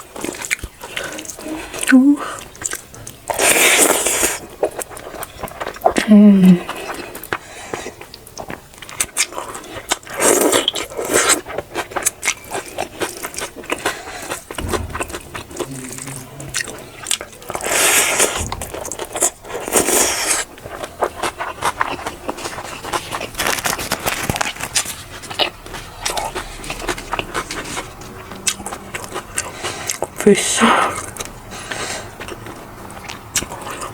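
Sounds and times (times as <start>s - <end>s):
chewing and mouth noises: 0.0s - 15.0s, 17.6s - 33.9s.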